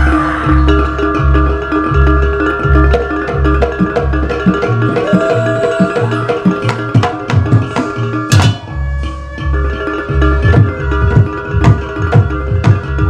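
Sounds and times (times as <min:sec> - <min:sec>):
deep bass beat: 0:00.0 - 0:13.0
hand drums playing: 0:00.0 - 0:13.0
violin and gamelan tones: 0:00.0 - 0:13.0.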